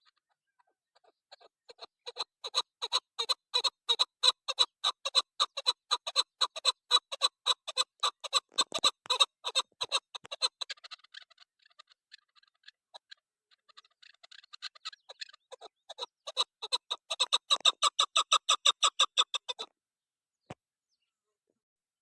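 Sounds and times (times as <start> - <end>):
partridge clucking calls: 0.0 - 19.7.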